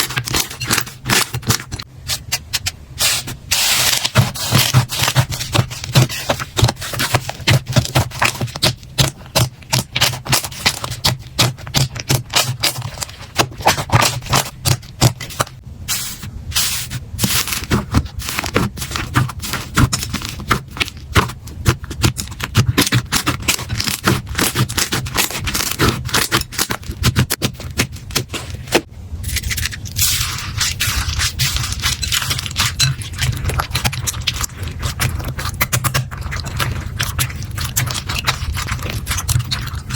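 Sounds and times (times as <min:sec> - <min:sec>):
slime smooth scraping: 0:00.0 - 0:39.9
slime clicking and crackling: 0:03.6 - 0:15.6, 0:17.2 - 0:28.8, 0:29.7 - 0:39.9.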